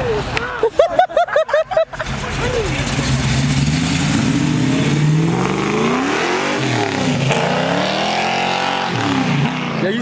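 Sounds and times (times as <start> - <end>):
car engine revving: 1.8 - 10.0.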